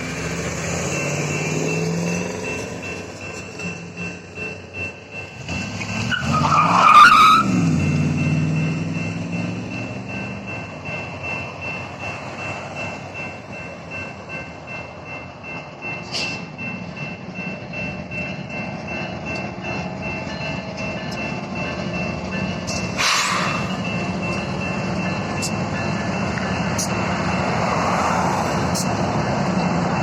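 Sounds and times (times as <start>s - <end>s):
crossing bell ringing: 0.0s - 30.0s
freight train rumbling: 0.0s - 30.0s.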